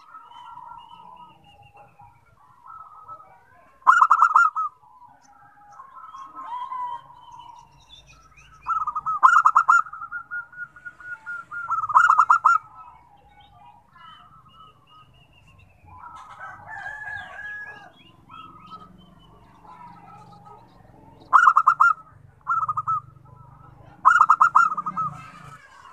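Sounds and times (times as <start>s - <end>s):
doves cooing: 0.0s - 25.9s
small birds chirping: 0.0s - 25.9s.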